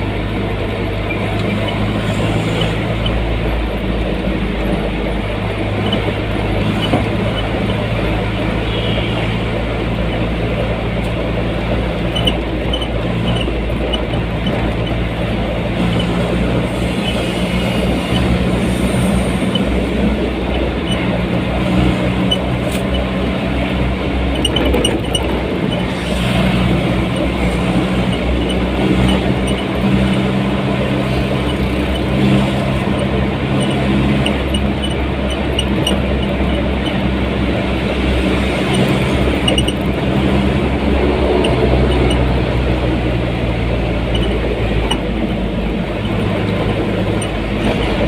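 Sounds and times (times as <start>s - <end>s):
vehicle engine and tyre noise: 0.0s - 48.0s.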